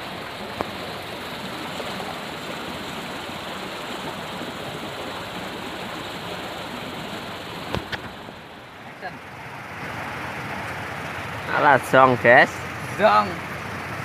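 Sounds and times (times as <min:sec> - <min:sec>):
rushing rocky stream: 0:00.0 - 0:14.0.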